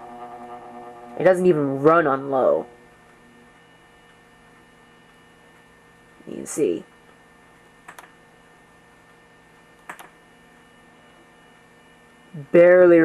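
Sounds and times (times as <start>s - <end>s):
faint fan motor hum: 0.0s - 13.0s.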